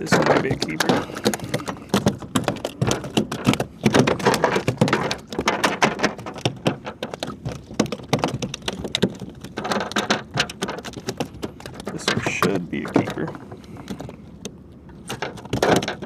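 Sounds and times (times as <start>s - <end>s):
fish thrashing against a kayak: 0.0s - 16.0s.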